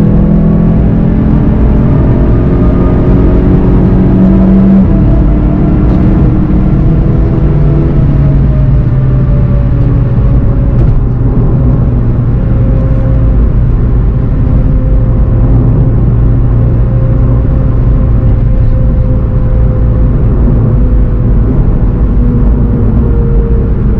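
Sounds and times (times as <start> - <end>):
car engine running: 0.0 - 23.9
road noise: 0.0 - 23.9.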